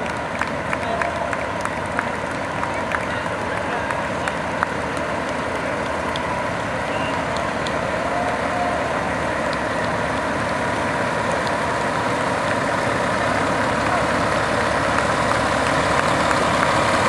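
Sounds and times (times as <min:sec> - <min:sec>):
fire truck diesel engine: 0:00.0 - 0:17.0.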